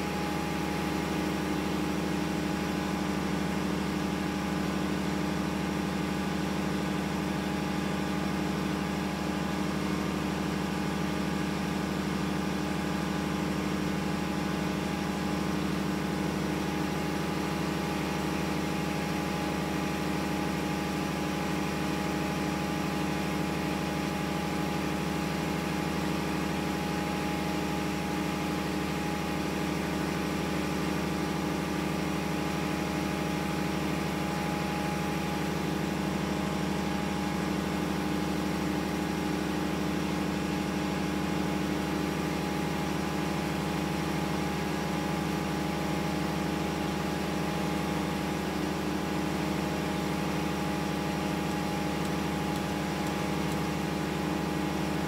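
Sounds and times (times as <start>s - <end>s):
ship engine machinery hum: 0.0s - 55.0s.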